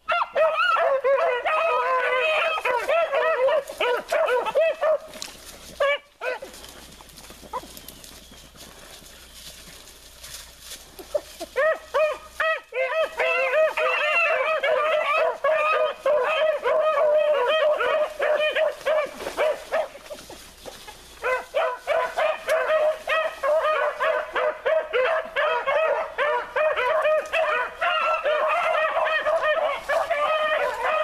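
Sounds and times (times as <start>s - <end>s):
dogs baying: 0.0s - 9.0s, 11.0s - 31.0s.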